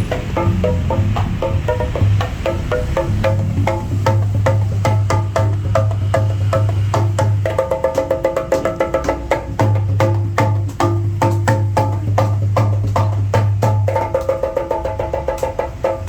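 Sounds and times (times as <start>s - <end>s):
deep bass drum tone: 0.0s - 16.0s
hand drums in fast rhythm: 0.0s - 16.0s.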